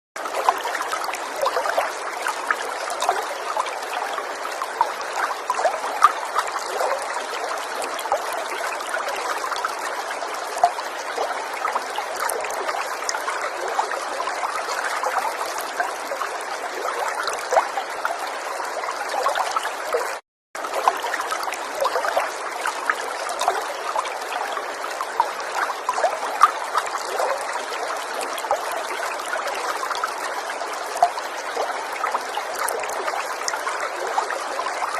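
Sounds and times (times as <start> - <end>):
river flowing over stones: 0.2 - 34.9.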